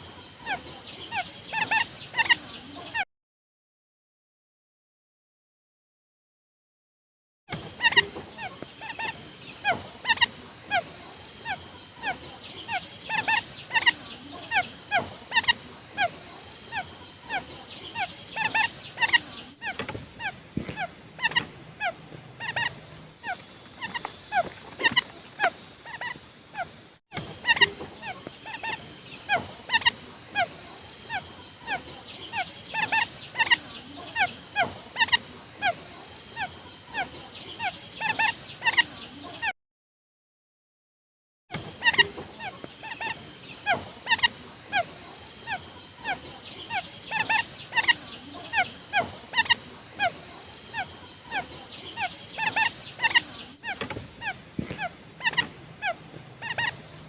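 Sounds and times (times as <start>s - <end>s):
quail lure call chirps: 7.8s - 38.9s, 41.8s - 56.8s.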